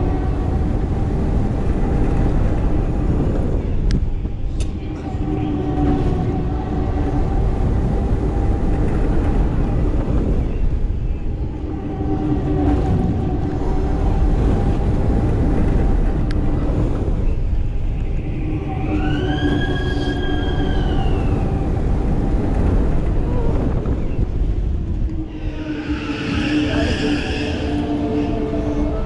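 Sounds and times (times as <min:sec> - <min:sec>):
ride drive hum: 0:00.0 - 0:29.0
wind rumble on microphone: 0:00.0 - 0:29.0.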